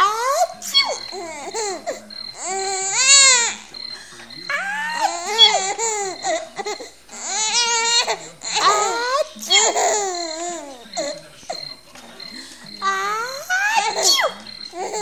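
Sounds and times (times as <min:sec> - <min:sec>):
baby squealing and laughing: 0:00.0 - 0:03.7, 0:04.5 - 0:11.6, 0:12.8 - 0:15.0.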